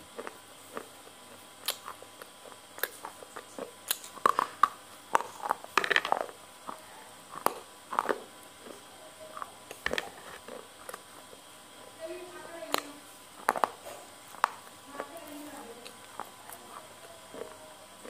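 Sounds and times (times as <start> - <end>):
chewing with wet mouth clicks: 0.1 - 11.5, 13.4 - 15.2, 15.8 - 18.0.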